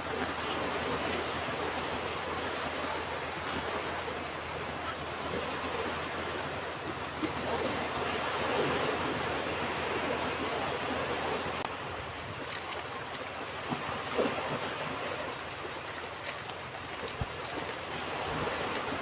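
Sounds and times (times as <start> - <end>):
ocean waves washing onto beach: 0.0 - 19.0.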